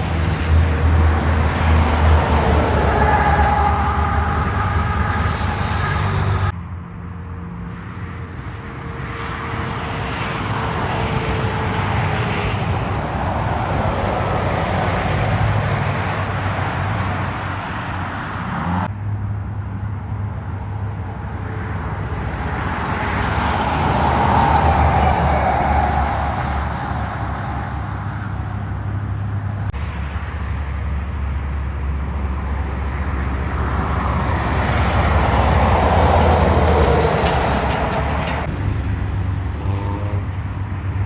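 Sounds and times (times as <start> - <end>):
heavy trucks passing: 0.0 - 6.6, 8.9 - 18.9, 20.6 - 41.0.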